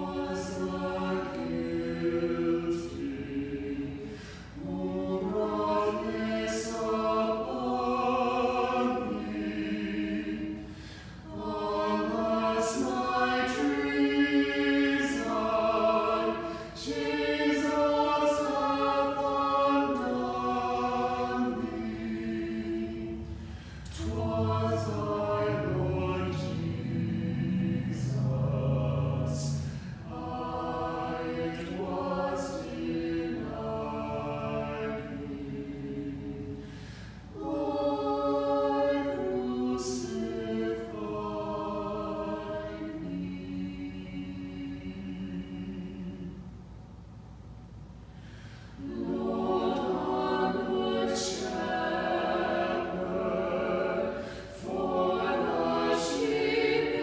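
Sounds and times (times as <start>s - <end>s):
small choir singing unaccompanied: 0.0s - 47.1s, 47.7s - 57.0s.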